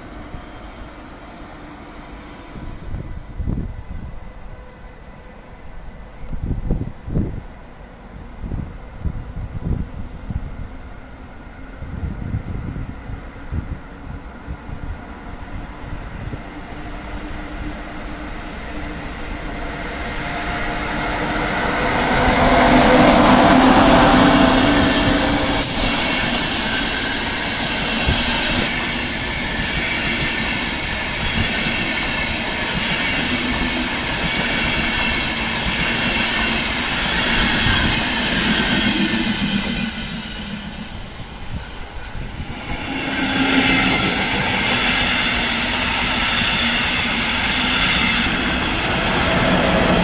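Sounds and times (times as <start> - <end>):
train wheels rumbling on rails: 8.2 - 50.0.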